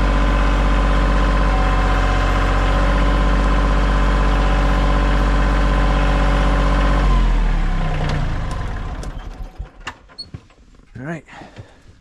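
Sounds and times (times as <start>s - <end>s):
tractor engine idling and winding down: 0.0s - 10.2s.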